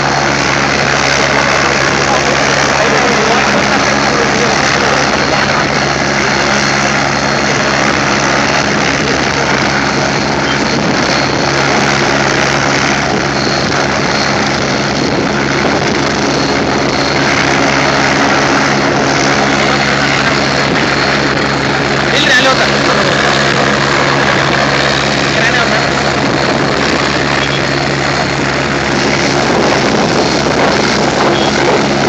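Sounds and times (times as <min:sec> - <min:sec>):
helicopter rotor and engine hum: 0:00.0 - 0:32.0
high turbine whine: 0:00.0 - 0:32.0.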